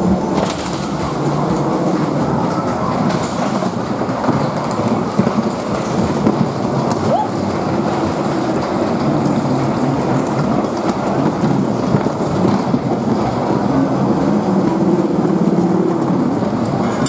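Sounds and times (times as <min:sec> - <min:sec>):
ride car rumbling on track: 0:00.0 - 0:17.0.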